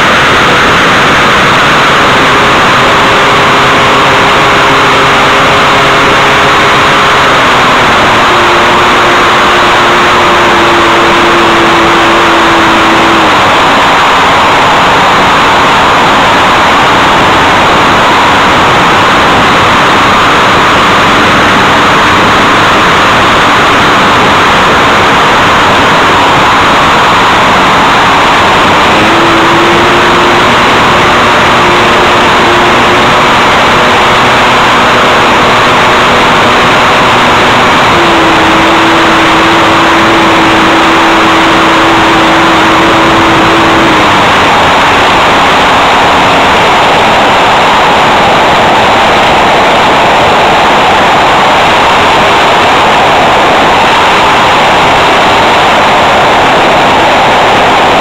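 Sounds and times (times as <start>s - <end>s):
aircraft engine drone: 0.0s - 58.0s.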